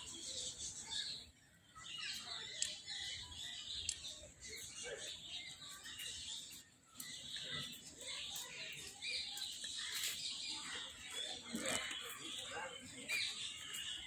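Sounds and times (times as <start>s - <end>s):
faint bird chirping: 0.0s - 14.0s.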